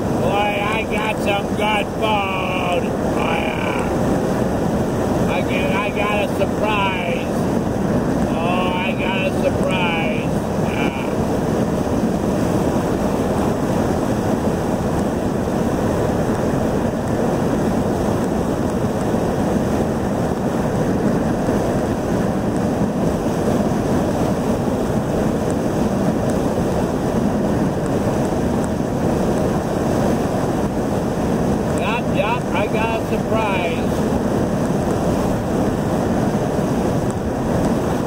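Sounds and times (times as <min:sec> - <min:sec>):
road and wind noise inside car: 0:00.0 - 0:38.0.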